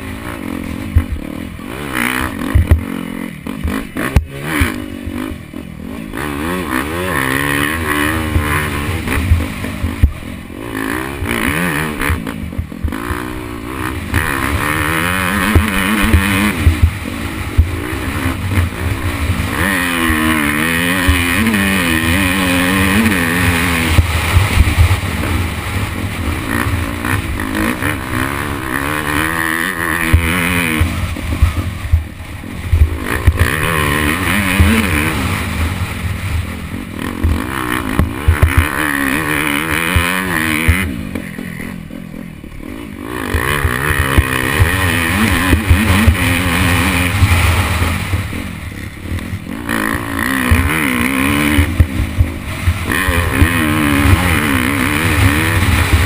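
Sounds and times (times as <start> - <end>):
dirt bike engine revving: 0.0 - 56.0
wind rumble: 5.0 - 41.6, 42.3 - 56.0.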